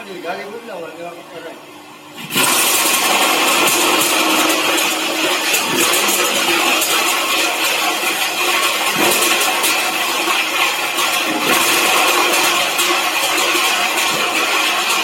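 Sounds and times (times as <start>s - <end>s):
shredding machine running: 2.0s - 15.0s.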